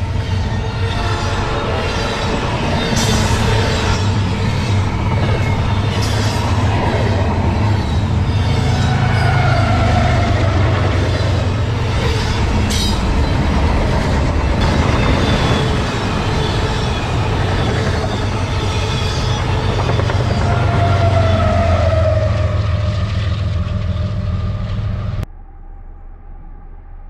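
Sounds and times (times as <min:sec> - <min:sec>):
train wheels rumbling on rail: 0:00.0 - 0:25.3.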